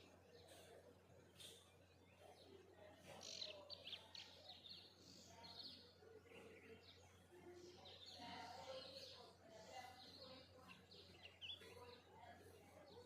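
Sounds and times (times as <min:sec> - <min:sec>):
songbirds chirping faintly: 0:00.0 - 0:13.0.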